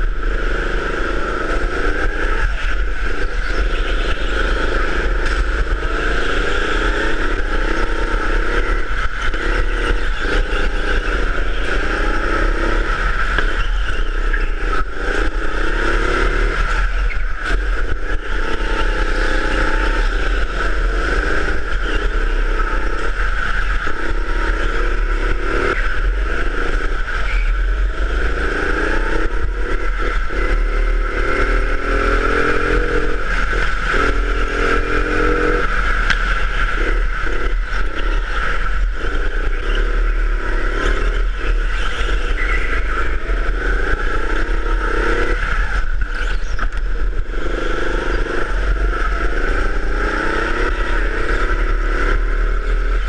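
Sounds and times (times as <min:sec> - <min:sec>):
go-kart engine revving: 0:00.0 - 0:53.0
steady high-pitched drone: 0:00.0 - 0:53.0.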